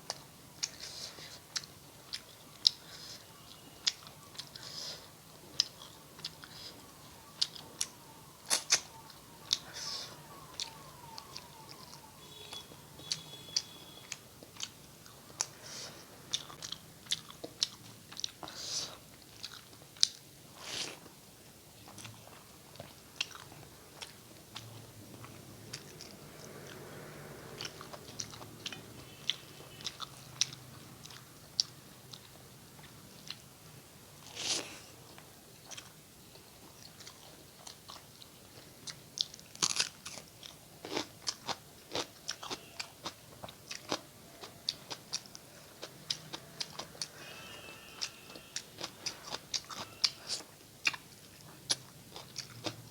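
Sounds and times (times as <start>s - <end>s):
wet chewing and smacking: 0.0s - 21.2s, 21.8s - 33.6s, 34.2s - 47.3s, 48.0s - 52.9s.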